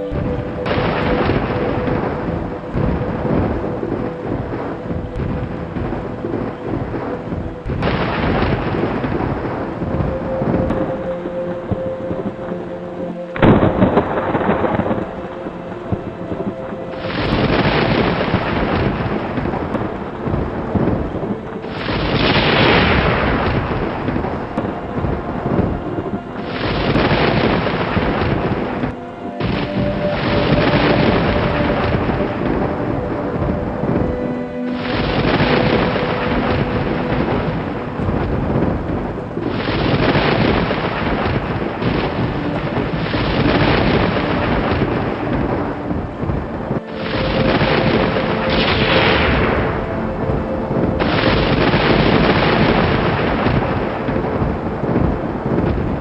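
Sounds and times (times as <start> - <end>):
soft music: 0.0 - 56.0
steady rain: 0.0 - 56.0
thunder claps: 0.0 - 56.0.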